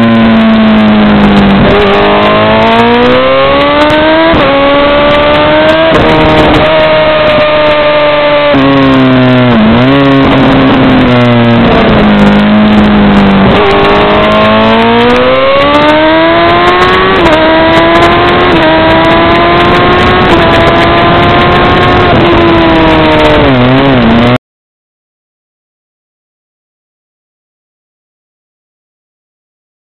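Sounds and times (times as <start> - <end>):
motorcycle engine at racing speed: 0.0 - 24.4.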